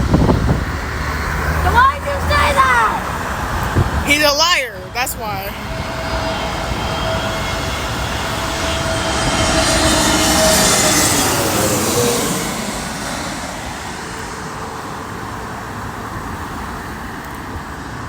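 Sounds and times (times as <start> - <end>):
jet passing overhead: 0.0 - 18.0.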